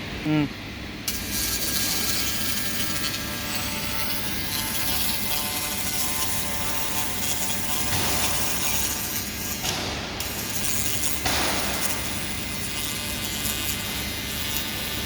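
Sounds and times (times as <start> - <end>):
multi-tone machine whine: 0.0 - 15.0.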